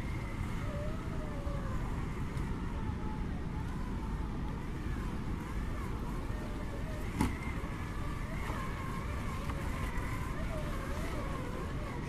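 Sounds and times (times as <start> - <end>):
electric motor and gearbox whining: 0.0 - 12.0.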